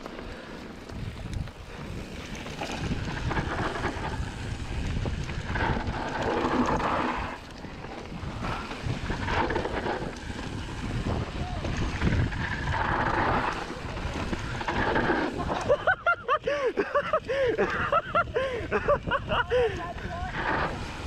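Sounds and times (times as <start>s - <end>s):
tyres rattling on dirt trail: 0.0s - 21.0s
wind rushing over microphone: 0.8s - 21.0s.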